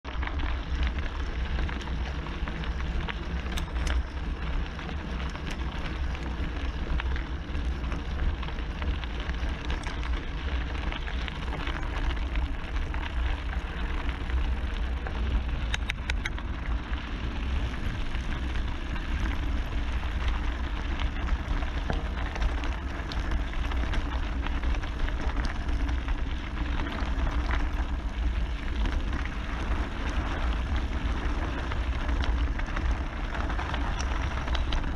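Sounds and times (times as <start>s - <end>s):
gravel and bike rattles: 0.0s - 34.9s
wind rumble on microphone: 0.0s - 34.9s
bike tyres on gravel: 0.1s - 34.9s.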